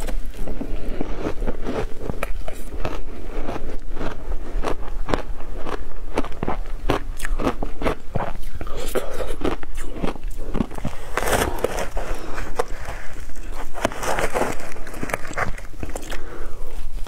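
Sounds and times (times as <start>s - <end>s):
person crunching ice: 0.0s - 16.6s.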